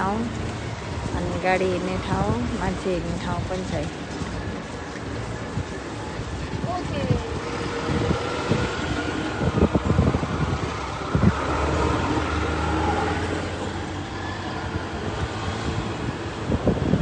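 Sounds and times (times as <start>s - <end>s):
cars driving by: 0.0s - 17.0s.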